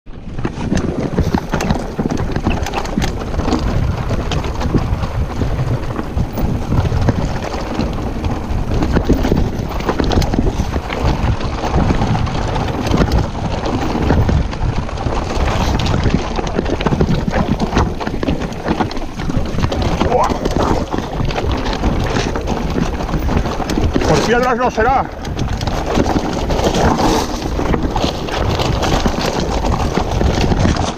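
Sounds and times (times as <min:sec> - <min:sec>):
steady low rumble: 0:00.1 - 0:30.7
bike clattering: 0:00.1 - 0:30.9
tyres crunching over stones: 0:00.2 - 0:30.9.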